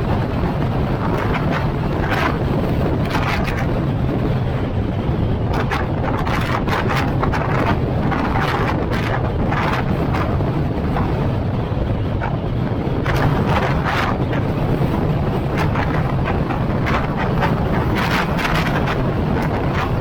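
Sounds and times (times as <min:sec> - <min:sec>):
car driving rumble: 0:00.0 - 0:20.0
wind buffeting microphone: 0:00.0 - 0:20.0.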